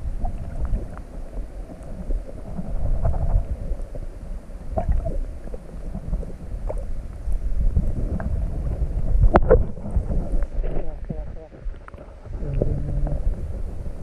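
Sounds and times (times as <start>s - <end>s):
muffled underwater river rumble: 0.0s - 14.0s.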